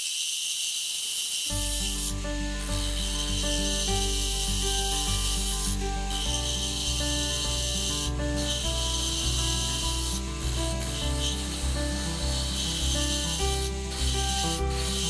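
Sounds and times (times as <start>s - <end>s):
background music: 1.5s - 15.0s.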